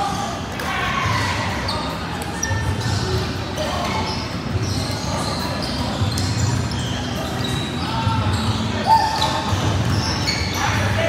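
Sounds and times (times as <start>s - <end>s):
shoes squeaking on floor: 1.2s - 11.0s.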